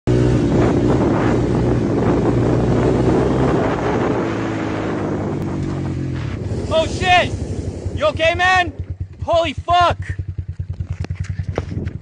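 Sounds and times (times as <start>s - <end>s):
atv engine running: 0.1s - 12.0s
wind buffeting microphone: 0.1s - 12.0s.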